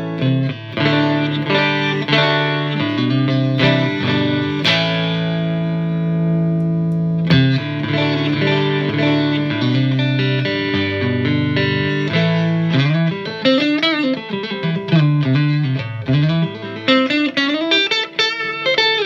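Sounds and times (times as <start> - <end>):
clean electric guitar playing: 0.0 - 19.0.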